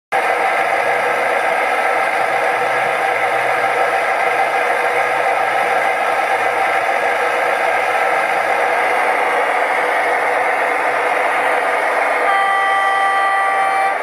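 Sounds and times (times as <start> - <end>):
model train diesel engine sound: 0.1 - 14.0.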